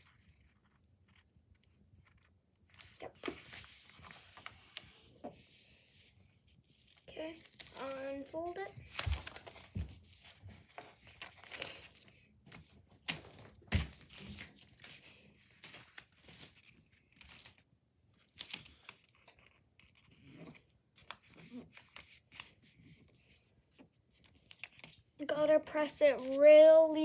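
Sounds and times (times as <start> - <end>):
paper rustling and crinkling: 0.0 - 26.6.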